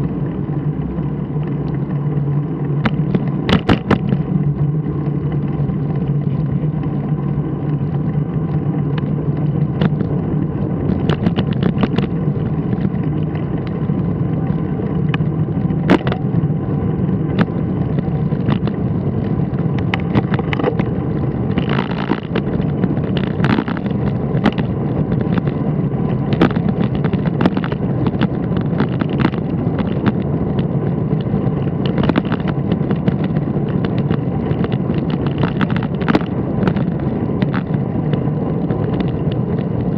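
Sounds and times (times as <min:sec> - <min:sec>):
clicks and knocks over road bumps: 0:00.0 - 0:39.9.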